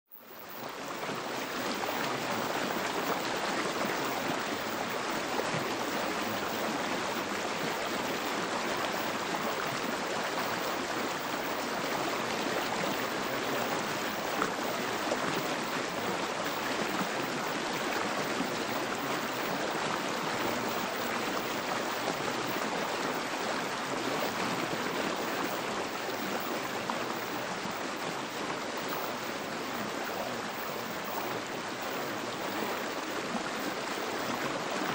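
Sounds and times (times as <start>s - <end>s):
rushing water: 0.1s - 34.9s.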